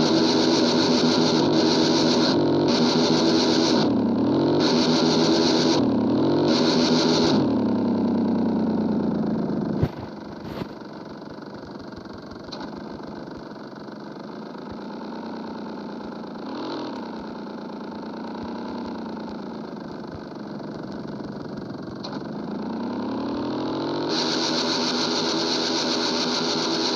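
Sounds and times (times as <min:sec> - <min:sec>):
motorcycle engine revving and idling: 0:00.0 - 0:26.9.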